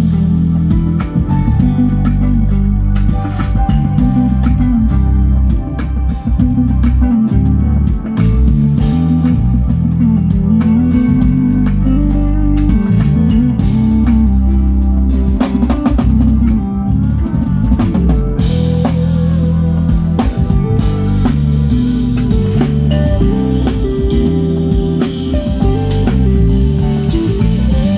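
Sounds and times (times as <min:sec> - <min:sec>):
bass line: 0:00.0 - 0:27.9
drum kit beat: 0:00.0 - 0:27.9
guitar: 0:00.0 - 0:27.9.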